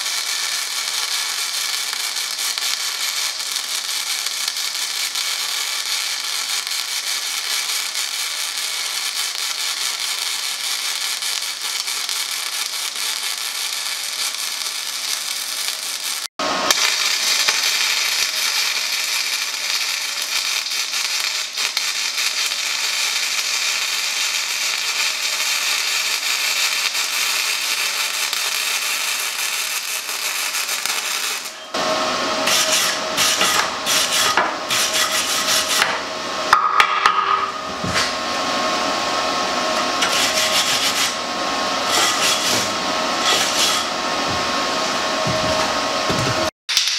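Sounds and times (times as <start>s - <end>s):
arc welding crackling hiss: 0.0s - 36.1s, 39.4s - 45.0s.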